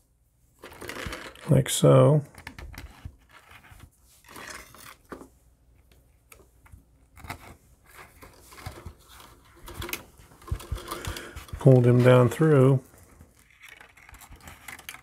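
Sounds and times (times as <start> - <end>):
wires rustling and scraping: 0.5 - 15.0.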